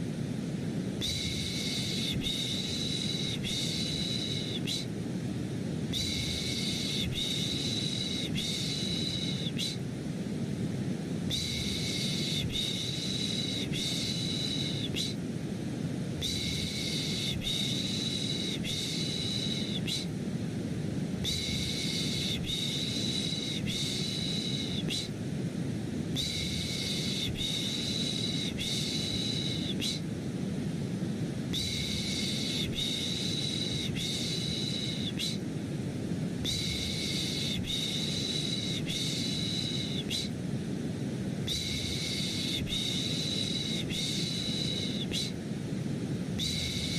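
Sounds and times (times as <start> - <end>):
deep white noise: 0.0 - 46.9.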